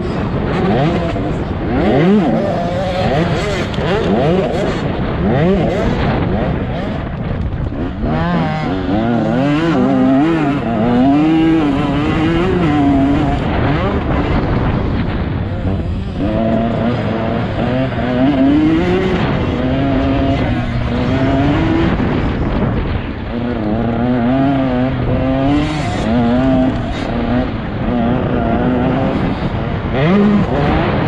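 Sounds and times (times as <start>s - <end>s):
motocross bike engine revving: 0.0s - 31.0s.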